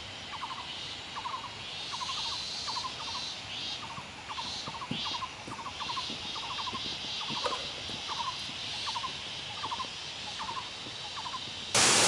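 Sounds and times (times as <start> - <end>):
steady high hiss: 0.0 - 12.0
animal rattling calls: 1.2 - 11.5.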